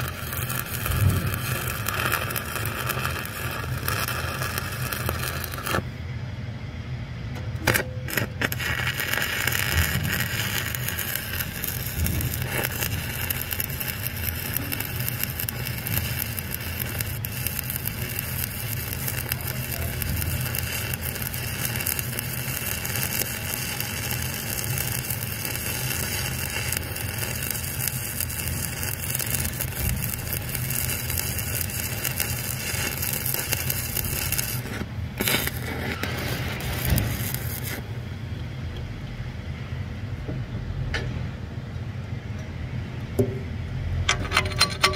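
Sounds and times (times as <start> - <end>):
welding arc crackling: 0.0 - 6.0, 7.5 - 38.0.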